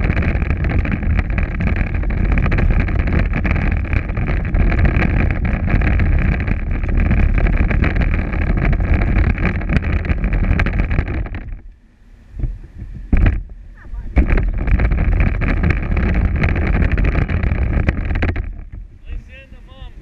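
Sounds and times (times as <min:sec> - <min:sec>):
wheels rumbling and rattling: 0:00.0 - 0:20.0
wind on microphone: 0:00.0 - 0:20.0.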